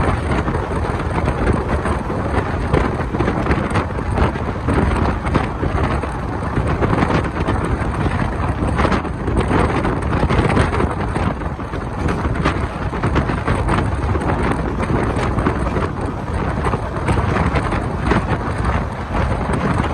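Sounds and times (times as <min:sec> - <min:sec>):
train wheels rattling on track: 0:00.0 - 0:19.9
wind buffeting microphone: 0:00.0 - 0:19.9.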